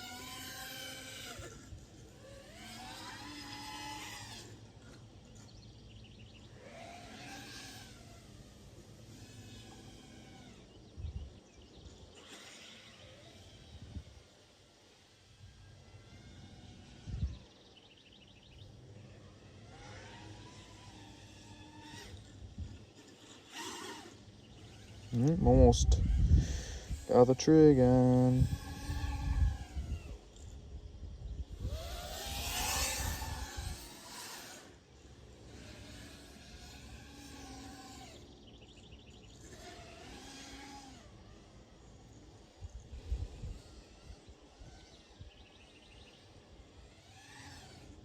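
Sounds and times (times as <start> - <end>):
birds chirping: 0.0 - 14.1, 15.6 - 40.7, 41.4 - 48.0
drone motors whining: 0.0 - 48.0.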